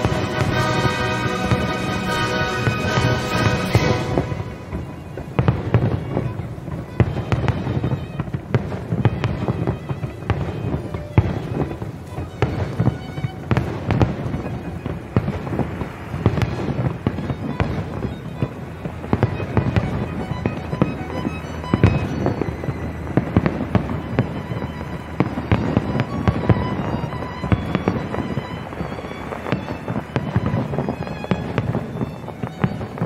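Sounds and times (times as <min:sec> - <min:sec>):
firework shells bursting: 0:00.0 - 0:33.0.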